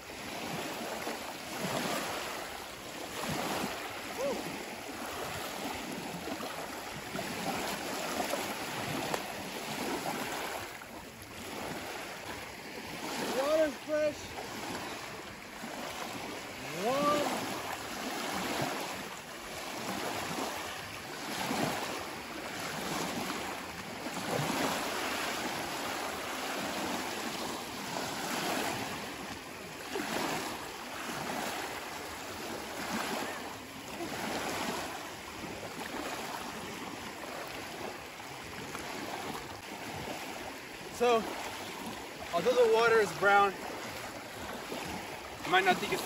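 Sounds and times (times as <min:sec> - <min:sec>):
water sloshing around wading person: 0:00.0 - 0:46.0
waves lapping in shallow water: 0:00.0 - 0:46.0.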